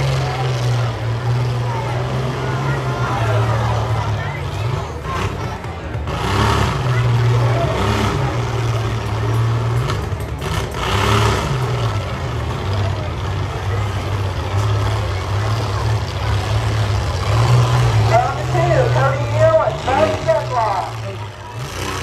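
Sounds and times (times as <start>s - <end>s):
engines revving: 0.0s - 22.0s.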